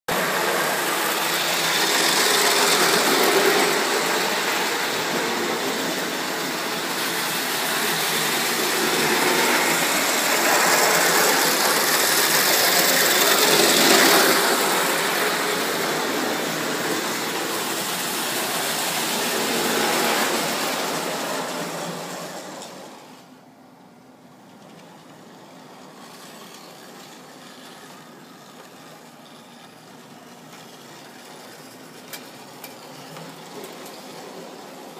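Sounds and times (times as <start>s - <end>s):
toy electric train running on track: 0.1s - 23.3s, 24.5s - 34.9s.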